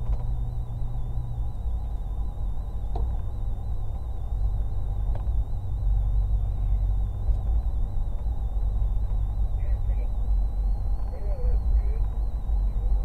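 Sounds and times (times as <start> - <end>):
car engine and tyres rumbling: 0.0 - 13.0
faint wavering high whine: 0.0 - 13.0.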